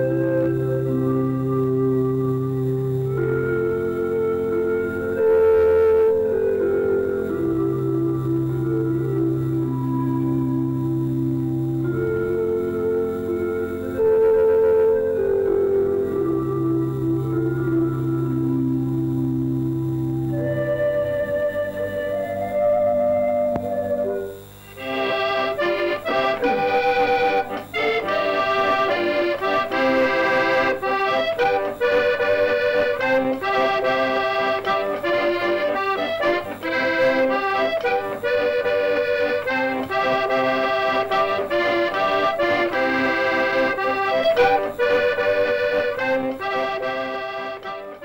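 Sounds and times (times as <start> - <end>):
piano accordion playing lively tune: 0.0 - 48.0.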